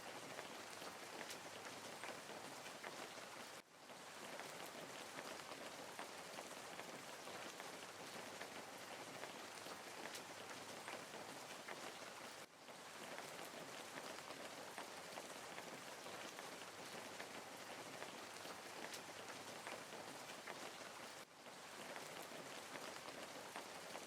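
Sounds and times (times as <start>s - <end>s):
fountain splashing into pond: 0.0s - 24.0s.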